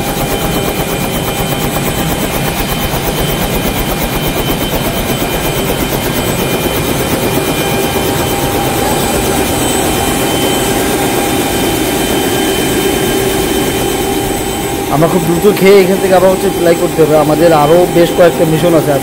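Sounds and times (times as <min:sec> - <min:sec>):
helicopter engine and rotor running: 0:00.0 - 0:19.0.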